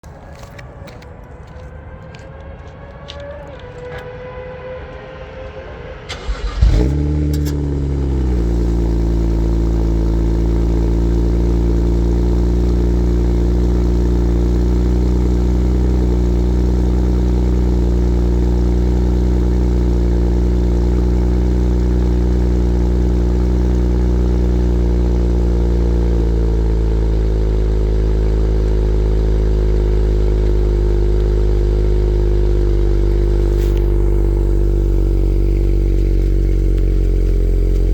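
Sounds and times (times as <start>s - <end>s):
car engine starting and idling: 3.0s - 37.9s.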